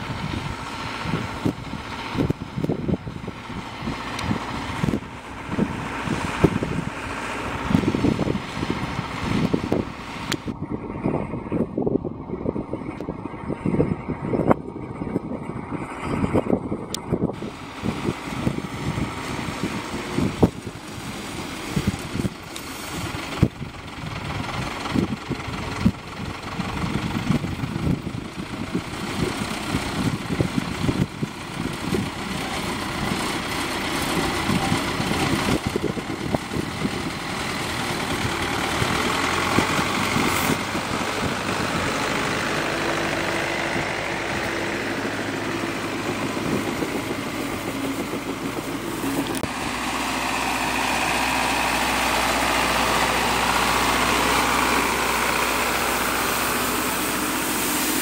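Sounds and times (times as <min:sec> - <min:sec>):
tractor diesel engine running: 0:00.0 - 0:58.0
wind buffeting microphone: 0:00.0 - 0:58.0.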